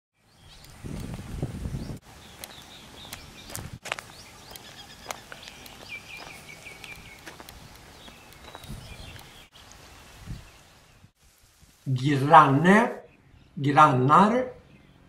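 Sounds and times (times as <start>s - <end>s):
birds chirping: 0.2s - 11.1s, 12.0s - 15.0s.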